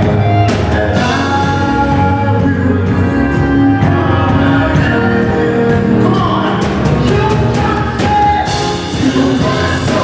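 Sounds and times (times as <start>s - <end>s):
drum kit: 0.0s - 10.0s
gospel worship music: 0.0s - 10.0s
person singing: 0.0s - 10.0s.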